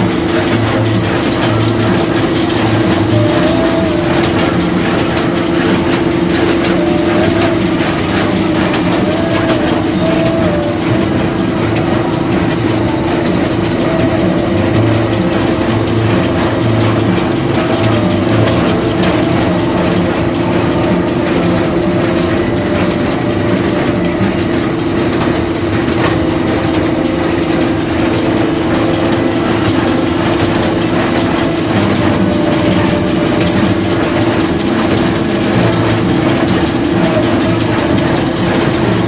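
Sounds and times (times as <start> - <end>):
diesel engine whining: 0.0 - 39.0
rattling mechanical clatter: 0.0 - 39.0.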